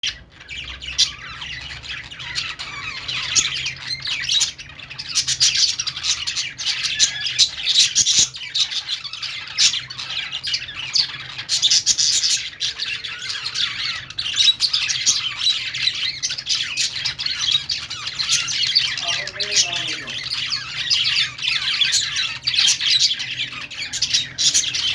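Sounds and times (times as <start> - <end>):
budgerigars chattering: 0.0 - 24.9.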